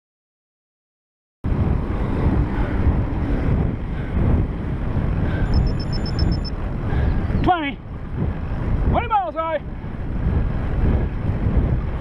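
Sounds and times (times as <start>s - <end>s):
wind buffeting microphone: 1.4s - 12.0s.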